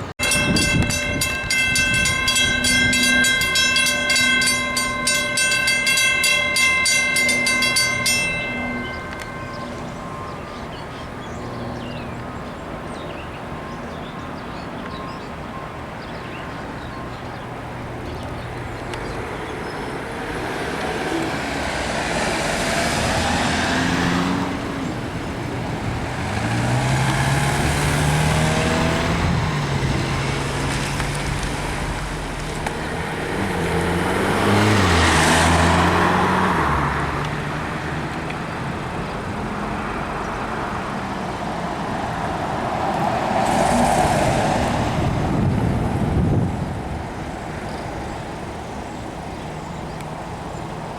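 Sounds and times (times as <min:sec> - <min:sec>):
vehicles passing: 0:00.0 - 0:50.9.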